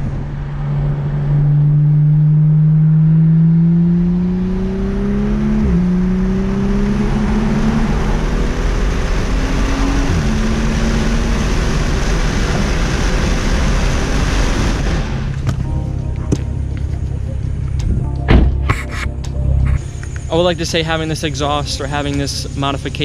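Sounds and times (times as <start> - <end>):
car engine accelerating: 0.0 - 23.0
road and wind noise: 0.0 - 23.0.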